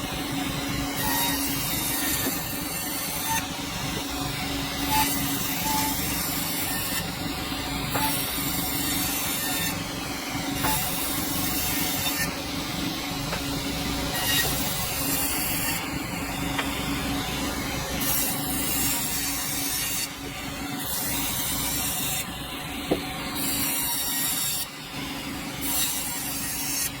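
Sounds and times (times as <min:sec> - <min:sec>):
sawmill blade cutting log: 0:00.7 - 0:22.3, 0:22.9 - 0:24.7, 0:25.6 - 0:27.0.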